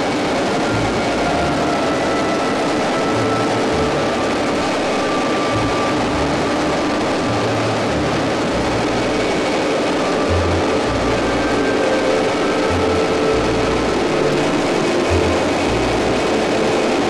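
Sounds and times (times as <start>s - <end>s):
helicopter rotor and engine rush: 0.0s - 17.0s
high turbine whine: 0.0s - 17.0s.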